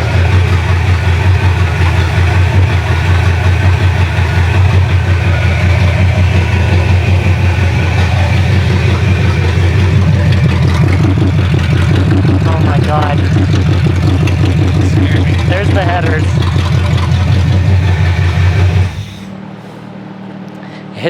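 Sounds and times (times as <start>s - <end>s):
car engine idling on open headers: 0.0s - 21.0s.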